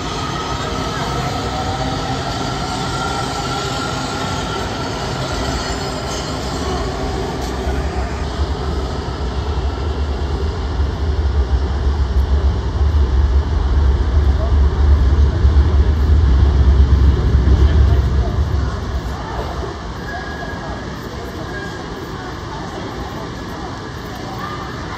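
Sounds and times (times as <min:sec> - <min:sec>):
heavy low train rumble in tunnel: 0:00.0 - 0:24.9
high whine of wheels and motors: 0:00.0 - 0:24.9
subway train rumbling past: 0:00.0 - 0:24.9.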